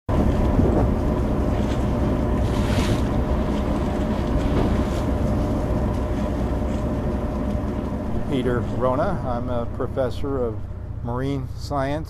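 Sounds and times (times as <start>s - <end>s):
ship machinery drone: 0.1s - 12.0s
steady hum tones: 0.1s - 12.0s
water noise: 0.1s - 12.0s
wind: 0.1s - 12.0s.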